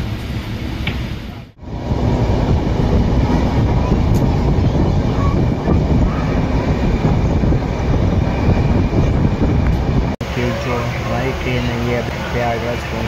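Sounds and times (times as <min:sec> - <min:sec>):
train coach rumbling: 0:00.0 - 0:13.0
wind buffeting microphone: 0:01.5 - 0:13.0.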